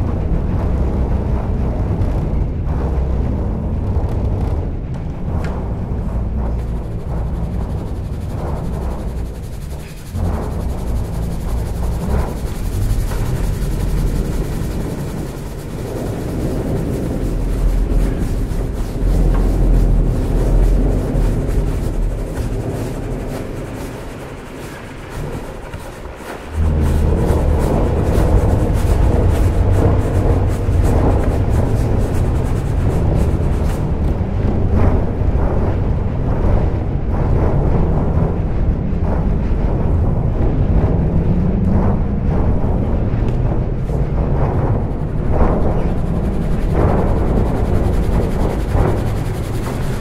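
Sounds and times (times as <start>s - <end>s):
drumheads rubbed by hand: 0.0s - 38.2s, 41.7s - 50.0s.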